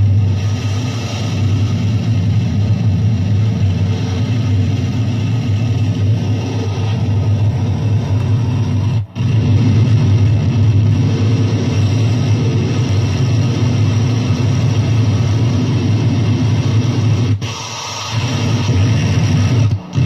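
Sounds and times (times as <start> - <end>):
dense electronic noise: 0.0 - 20.0
heavy low drone: 0.0 - 20.0.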